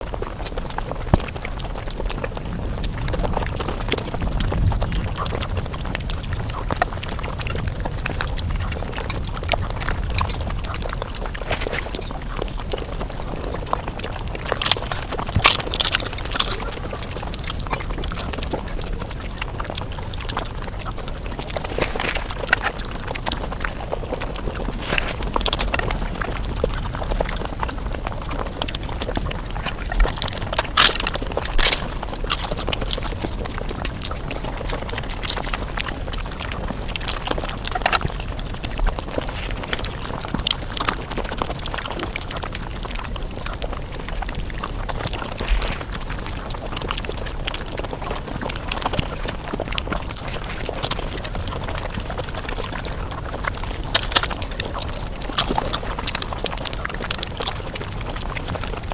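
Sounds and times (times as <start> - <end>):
chewing and crunching: 0.0 - 58.9.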